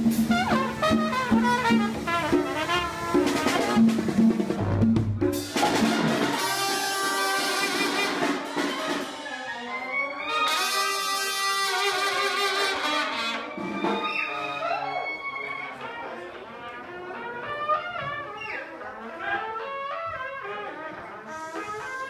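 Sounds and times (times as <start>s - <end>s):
brass section playing held chords: 0.0s - 9.2s, 9.9s - 22.0s.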